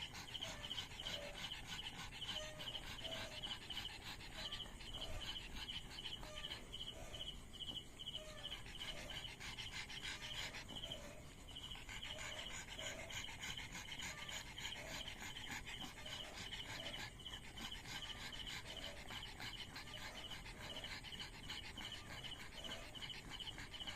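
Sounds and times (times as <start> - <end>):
dog panting softly: 0.0 - 23.9
insects chirping: 0.0 - 23.9.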